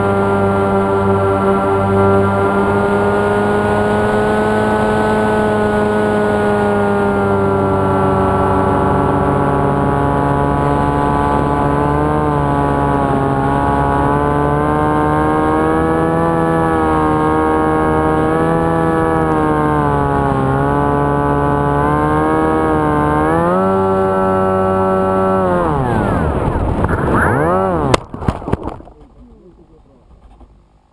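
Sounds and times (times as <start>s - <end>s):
propeller motor whine: 0.0s - 29.0s.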